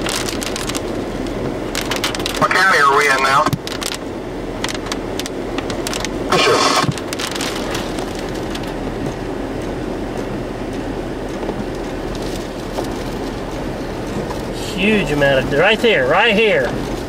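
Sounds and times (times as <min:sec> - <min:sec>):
car cabin road noise: 0:00.0 - 0:17.0
raindrops ticking on windshield: 0:00.0 - 0:17.0.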